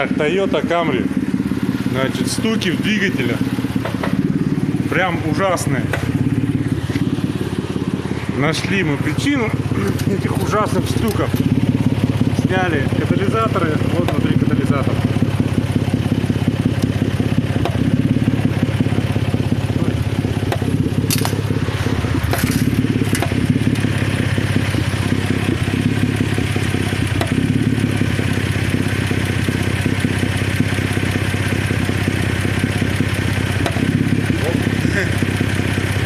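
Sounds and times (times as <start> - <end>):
car engine running with knocking rattle: 0.0 - 36.0.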